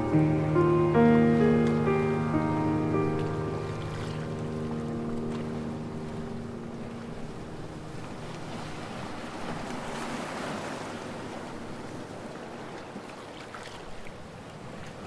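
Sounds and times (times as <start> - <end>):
water rushing past boat: 0.0 - 15.0.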